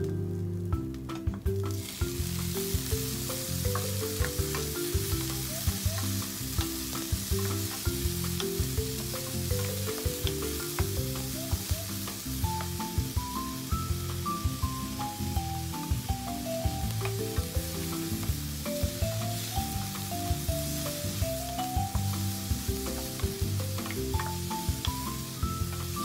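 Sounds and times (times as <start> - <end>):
background music melody: 0.0 - 26.0
food sizzling in a frying pan: 1.0 - 26.0.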